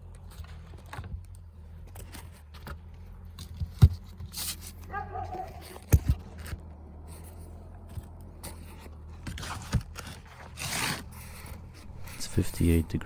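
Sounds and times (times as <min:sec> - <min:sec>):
wood scraping: 0:00.0 - 0:13.0.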